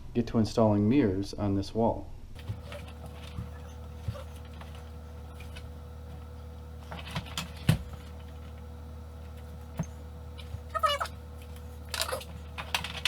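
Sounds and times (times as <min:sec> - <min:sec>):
low electrical hum: 0:00.0 - 0:13.0
knocks and clicks of handling: 0:02.4 - 0:13.0.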